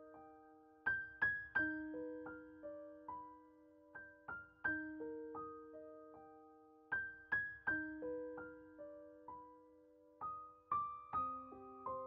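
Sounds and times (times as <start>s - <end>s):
soft piano notes: 0.0s - 12.0s.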